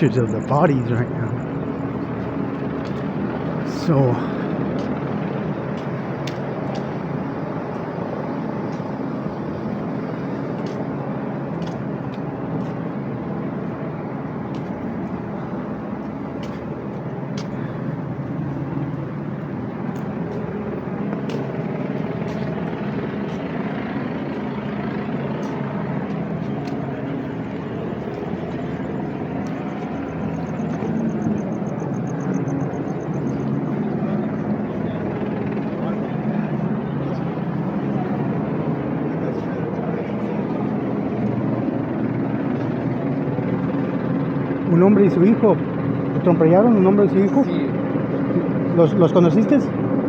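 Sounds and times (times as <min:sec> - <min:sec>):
street traffic rumble: 0:00.0 - 0:50.0.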